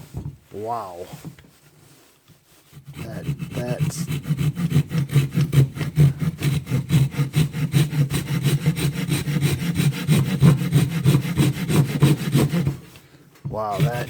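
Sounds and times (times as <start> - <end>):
hand saw cutting wood: 2.5 - 14.0.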